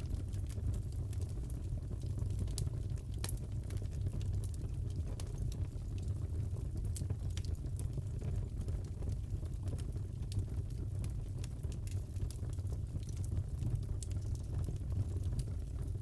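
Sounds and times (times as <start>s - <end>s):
fire popping and crackling: 0.0s - 16.0s
fire rumbling: 0.0s - 16.0s.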